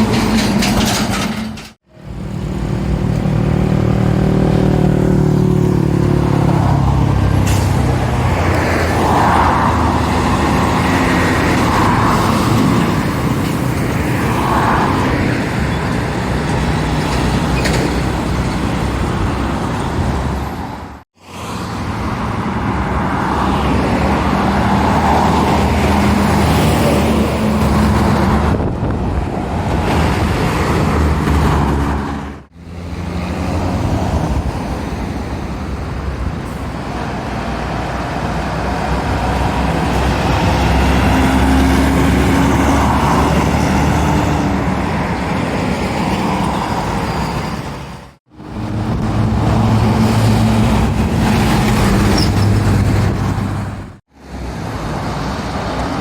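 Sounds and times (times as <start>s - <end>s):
diesel lorries passing: 0.0s - 56.0s
tyre and road noise: 0.0s - 56.0s.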